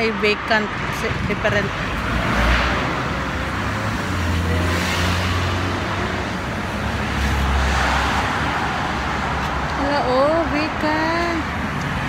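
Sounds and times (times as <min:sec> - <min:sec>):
cars passing: 0:00.0 - 0:12.0
low hum of traffic: 0:00.0 - 0:12.0.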